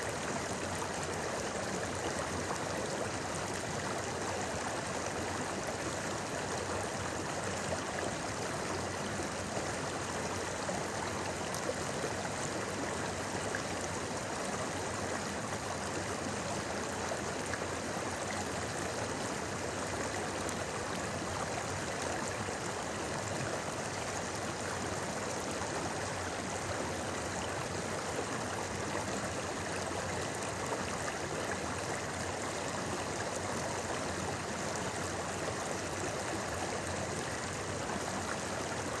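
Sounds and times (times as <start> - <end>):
stream babbling over rocks: 0.0 - 39.0.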